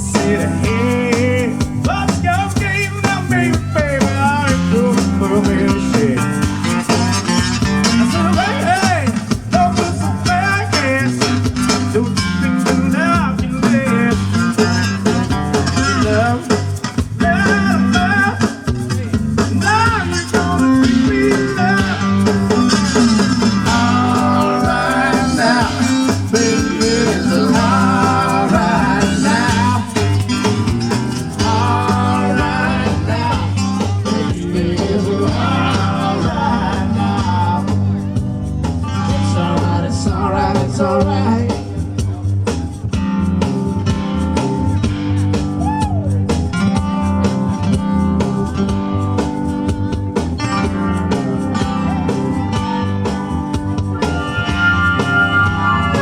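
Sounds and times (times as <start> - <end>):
bending guitar lead line: 0.0 - 56.0
blues-rock band music: 0.0 - 56.0.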